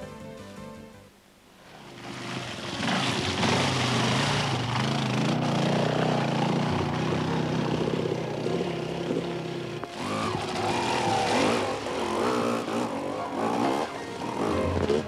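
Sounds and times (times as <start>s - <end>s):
motorcycle engine under load: 1.7s - 15.0s.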